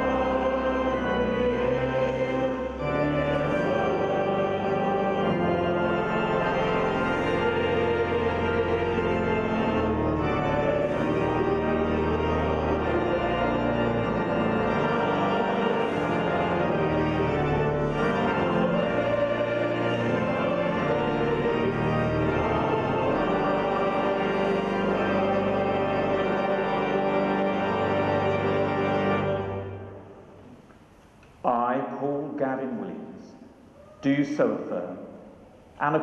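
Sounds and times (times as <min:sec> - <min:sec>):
organ playing sustained chords: 0:00.0 - 0:33.4.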